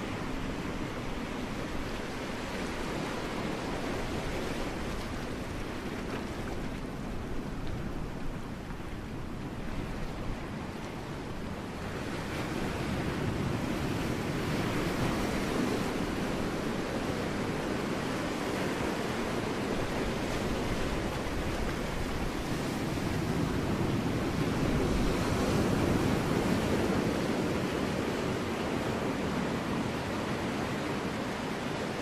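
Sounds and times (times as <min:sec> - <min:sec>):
ocean waves breaking on rocks: 0:00.0 - 0:32.0.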